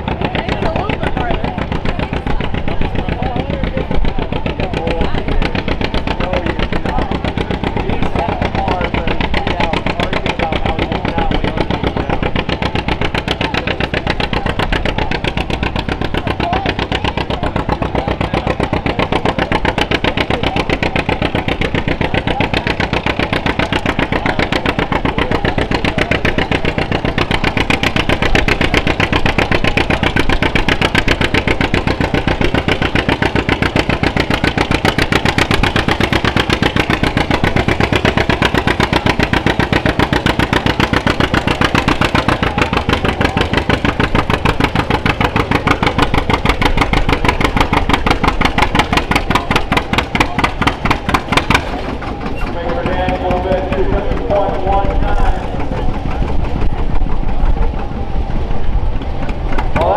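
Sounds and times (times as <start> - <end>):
tractor engine under full load: 0.0 - 59.9.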